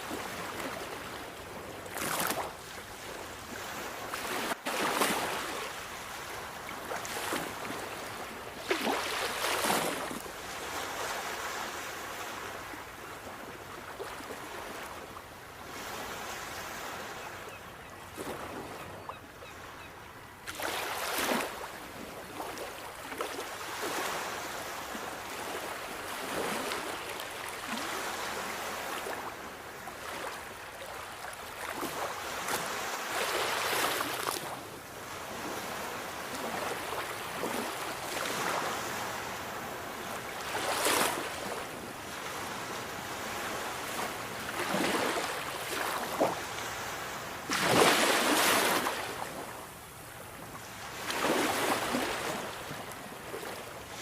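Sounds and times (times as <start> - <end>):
sea waves breaking: 1.9 - 12.5, 20.4 - 53.6.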